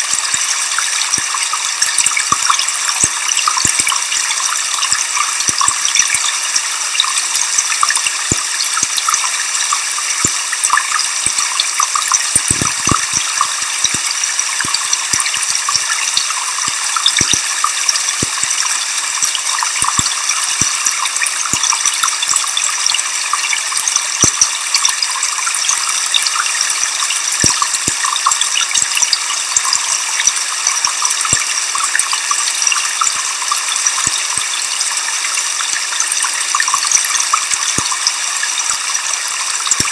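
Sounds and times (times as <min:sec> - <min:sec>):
sharp ticks: 0:00.0 - 0:39.9.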